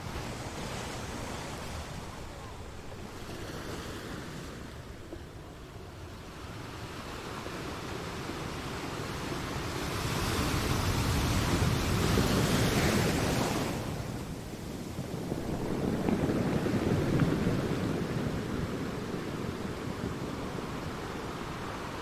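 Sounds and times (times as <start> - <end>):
ocean waves: 0.0 - 22.0.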